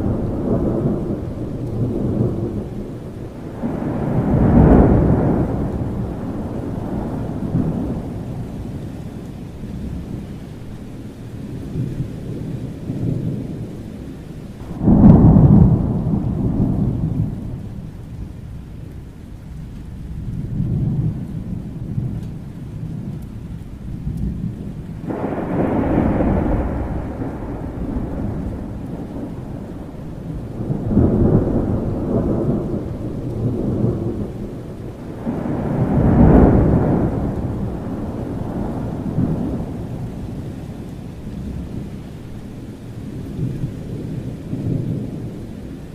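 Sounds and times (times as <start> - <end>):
thunder rolling: 0.0 - 10.4, 11.6 - 45.9
steady rain: 0.0 - 45.9.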